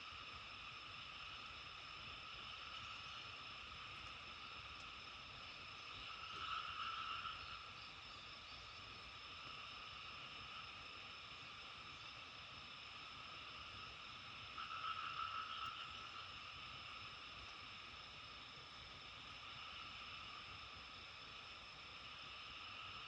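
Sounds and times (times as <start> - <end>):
frogs calling: 0.0 - 23.0.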